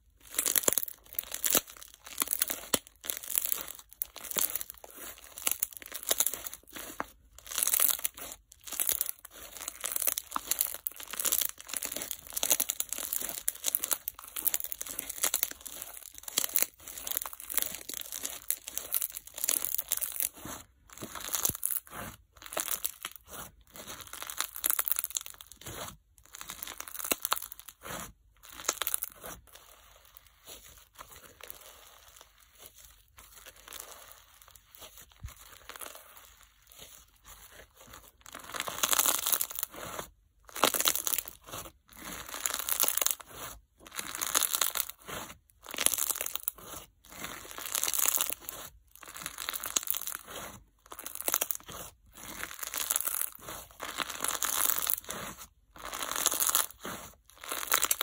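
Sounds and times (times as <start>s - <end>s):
slime crackling and popping: 0.0s - 58.0s.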